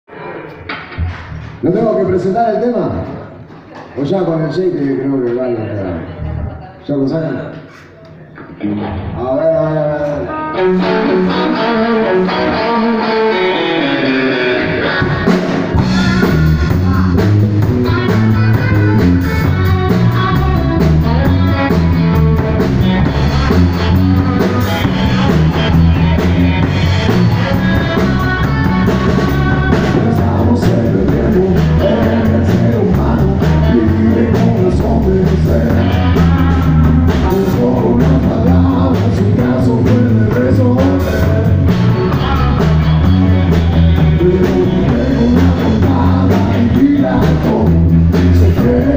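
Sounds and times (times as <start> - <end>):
drum kit: 0.1 - 2.3, 10.0 - 48.9
electric guitars: 8.3 - 48.9.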